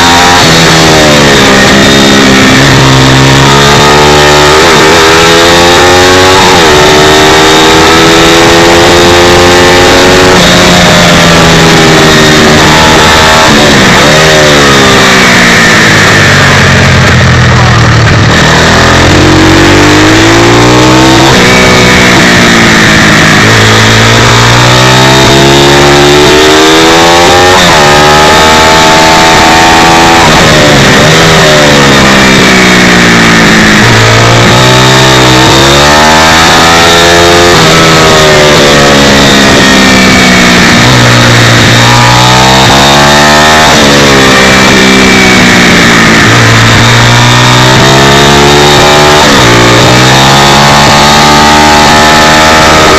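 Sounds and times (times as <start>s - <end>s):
pit bike engine revving: 0.0s - 52.9s.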